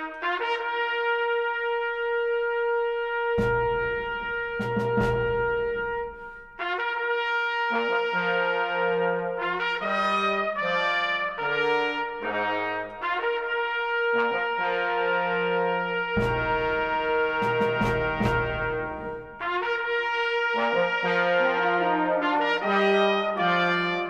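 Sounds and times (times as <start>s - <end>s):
trumpets and trombones playing: 0.0s - 24.0s.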